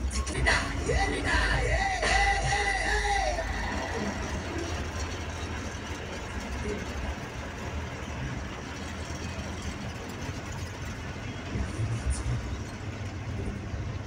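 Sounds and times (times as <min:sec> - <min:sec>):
bus diesel engine rumble: 0:00.0 - 0:14.0
road noise: 0:00.0 - 0:14.0.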